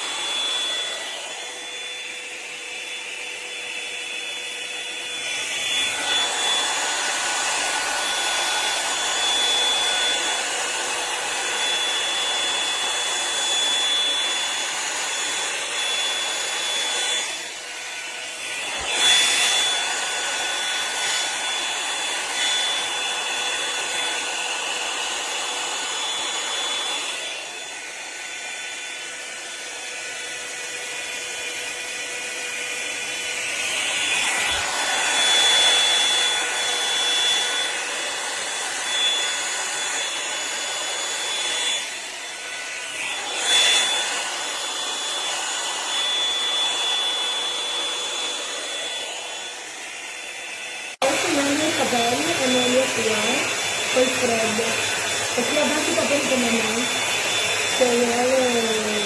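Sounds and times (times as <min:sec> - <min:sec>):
hot-air brush running: 0:00.0 - 0:59.0.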